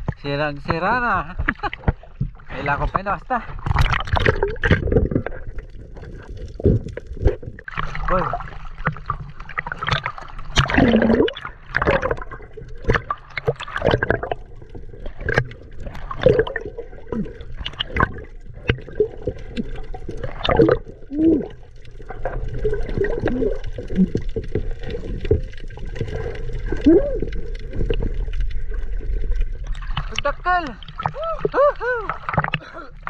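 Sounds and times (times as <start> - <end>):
underwater bubbling: 0.0 - 33.0
water sloshing and gurgling: 0.0 - 33.0.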